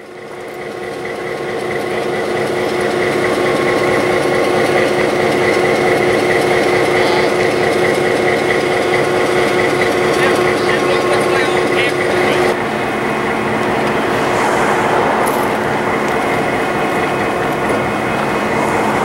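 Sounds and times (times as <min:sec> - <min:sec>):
diesel locomotive engine idling: 0:00.0 - 0:19.0.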